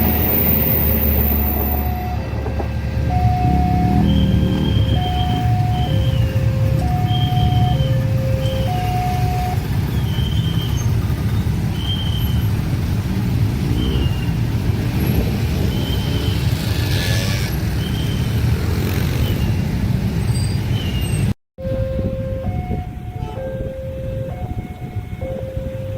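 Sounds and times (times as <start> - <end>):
train passing rumble: 0.0 - 17.8, 21.6 - 25.9.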